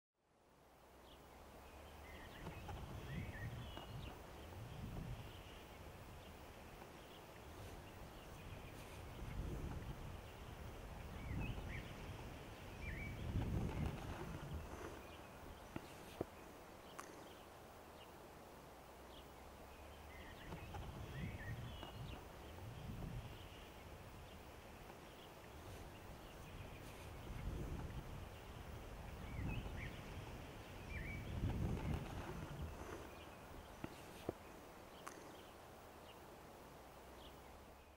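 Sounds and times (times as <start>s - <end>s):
soft hiss: 0.3s - 37.9s.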